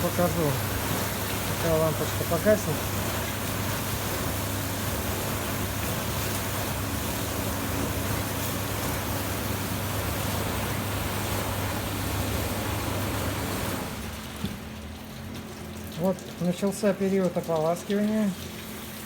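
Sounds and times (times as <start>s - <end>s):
dishwasher pump hum: 0.0s - 19.0s
water spraying inside dishwasher: 0.0s - 19.0s.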